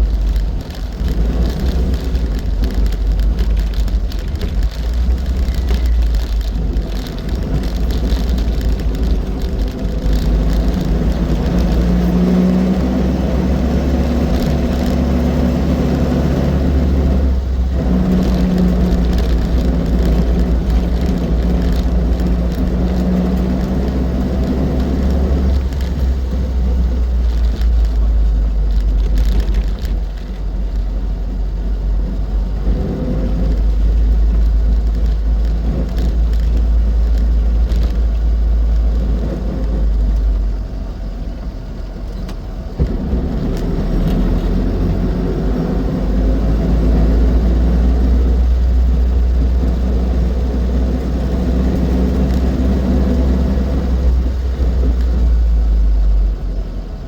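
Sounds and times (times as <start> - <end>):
car engine running: 0.0 - 57.0
road and wind rumble: 0.0 - 57.0.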